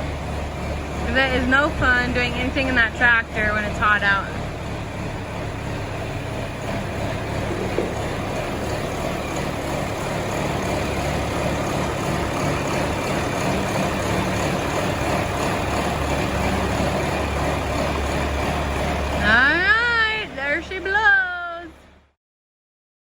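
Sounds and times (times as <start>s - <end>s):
tractor diesel engine running: 0.0s - 22.1s.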